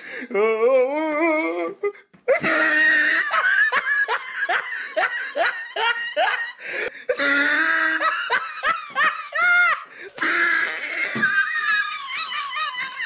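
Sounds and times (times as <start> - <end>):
person laughing: 2.3 - 13.0.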